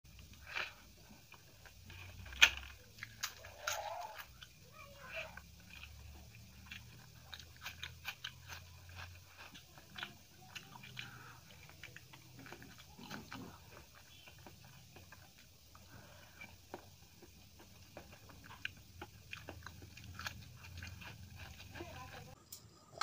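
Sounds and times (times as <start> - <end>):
person chewing with crunches: 0.1 - 22.4.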